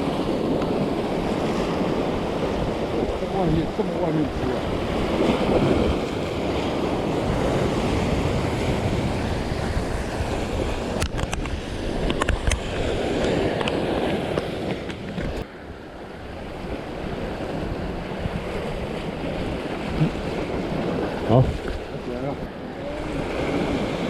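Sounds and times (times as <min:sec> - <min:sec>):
waves washing against rocks: 0:00.0 - 0:15.5, 0:16.5 - 0:24.0
wind buffeting microphone: 0:00.0 - 0:24.0.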